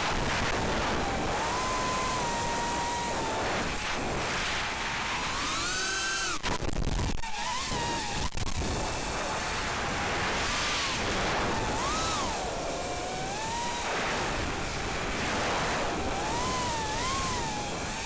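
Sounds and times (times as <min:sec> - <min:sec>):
drone motors whining: 0:00.0 - 0:18.0
wind rush on microphone: 0:00.0 - 0:18.0.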